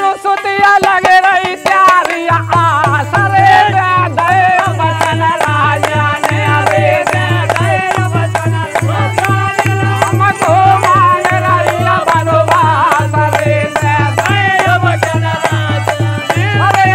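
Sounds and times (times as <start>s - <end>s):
hand drum: 0.0s - 16.9s
men singing together: 0.0s - 16.9s
hand clapping: 0.4s - 3.1s, 4.2s - 16.9s.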